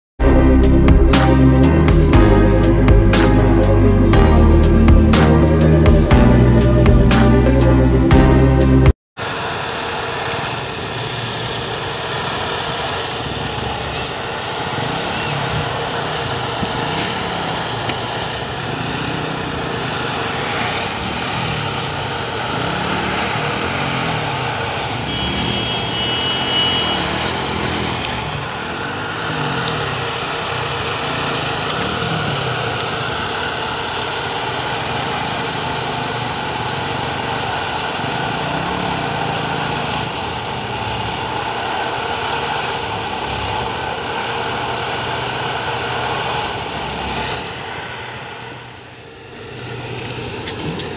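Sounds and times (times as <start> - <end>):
machine engine running: 9.2 - 50.9.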